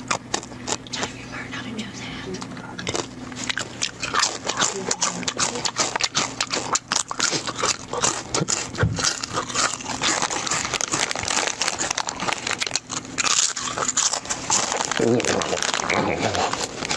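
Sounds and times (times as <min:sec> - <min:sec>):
chips crunched and chewed: 0:00.0 - 0:01.4, 0:02.4 - 0:16.9
chip bag crinkling: 0:02.7 - 0:16.9.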